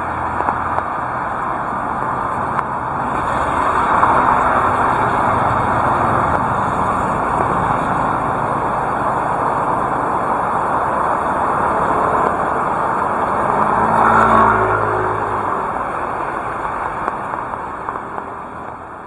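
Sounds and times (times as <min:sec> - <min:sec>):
heavy rain pouring: 0:00.0 - 0:19.0
vehicle engine hum: 0:00.0 - 0:19.0.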